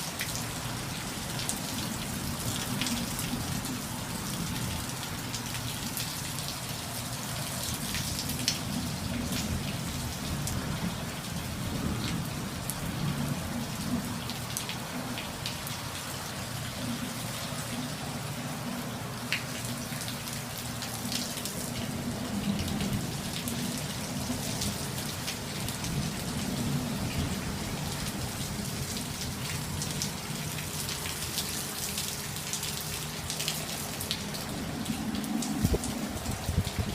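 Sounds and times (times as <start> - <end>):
heavy rain pouring: 0.0 - 36.9
raindrops ticking on hard surfaces: 0.0 - 36.9.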